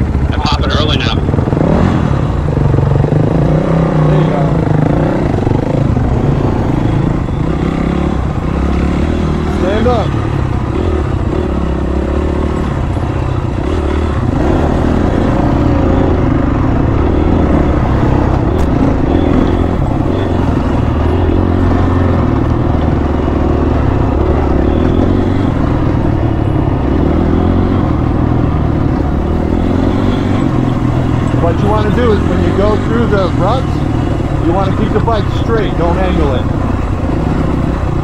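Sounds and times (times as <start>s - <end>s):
dirt bike engine at low revs: 0.0s - 38.0s.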